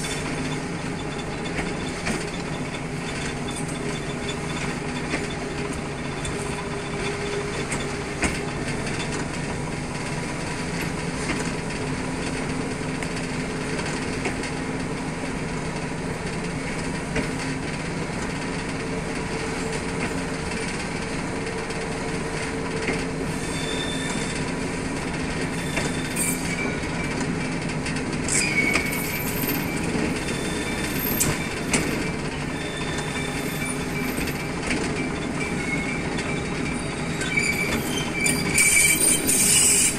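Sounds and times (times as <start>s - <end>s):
wheel flanges squealing: 0.0s - 15.2s, 18.4s - 39.9s
diesel engine hum: 0.0s - 39.9s
wheels clicking over rail joints: 0.0s - 39.9s.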